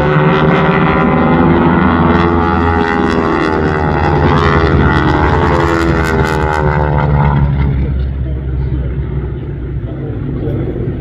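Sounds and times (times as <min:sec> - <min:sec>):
radial aircraft engines droning: 0:00.0 - 0:11.0.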